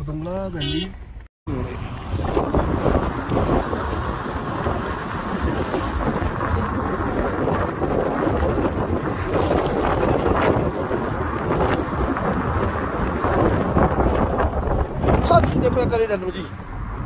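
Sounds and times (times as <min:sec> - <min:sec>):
car road noise: 0:00.0 - 0:17.0
wind buffeting microphone: 0:01.5 - 0:17.0.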